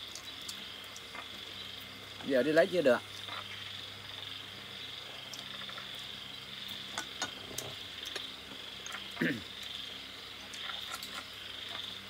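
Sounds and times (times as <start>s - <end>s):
insect chorus chirring: 0.0s - 12.0s.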